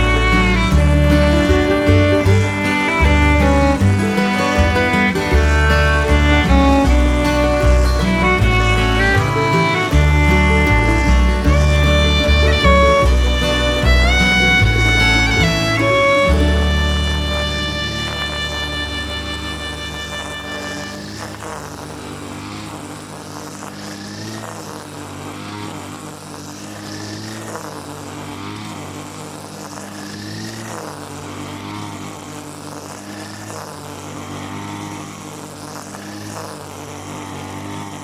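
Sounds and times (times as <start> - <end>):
small petrol engine running: 0.0 - 38.0.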